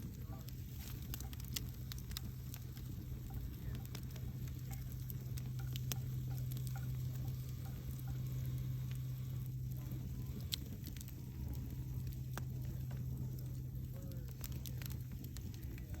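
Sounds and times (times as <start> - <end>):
campfire crackling: 0.0 - 16.0
steady low hum: 0.0 - 16.0.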